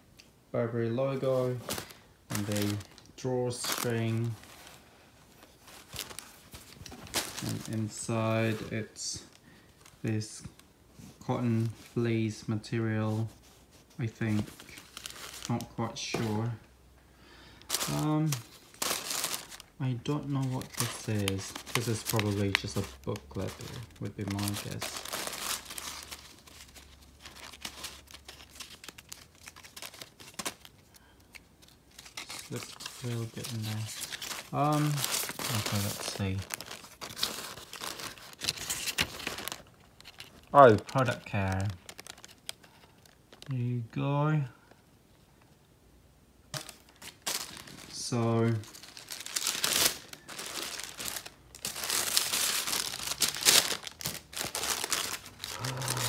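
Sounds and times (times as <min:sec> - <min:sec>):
tissue paper rustling: 0:01.4 - 0:10.1, 0:12.9 - 0:16.6, 0:17.6 - 0:30.8, 0:31.6 - 0:43.4, 0:46.6 - 0:56.0.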